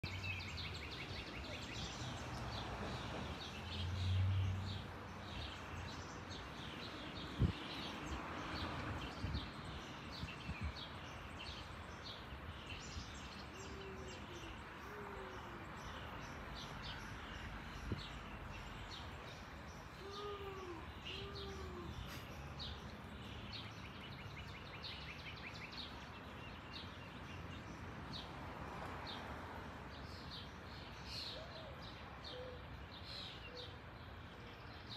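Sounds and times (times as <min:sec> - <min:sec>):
outdoor background hiss: 0:00.0 - 0:34.9
small birds chirping: 0:00.0 - 0:34.9.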